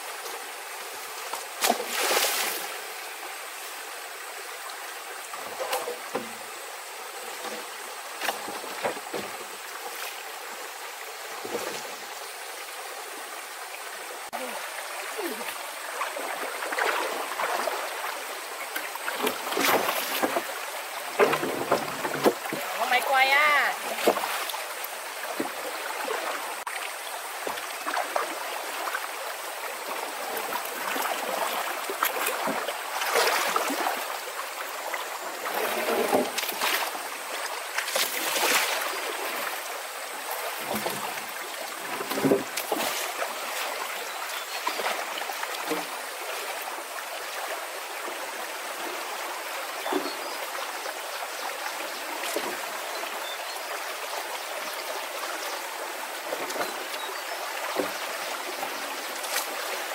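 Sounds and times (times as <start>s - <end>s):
running water with splashes: 0.0s - 59.9s.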